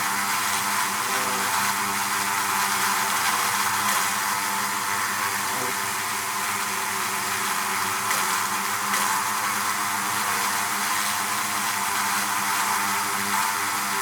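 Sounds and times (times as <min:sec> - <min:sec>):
bees buzzing at a hive: 0:00.0 - 0:14.0.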